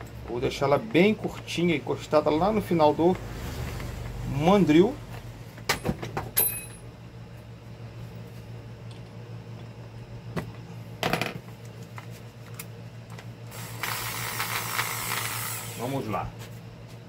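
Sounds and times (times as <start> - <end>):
low steady hum: 0.0 - 14.8.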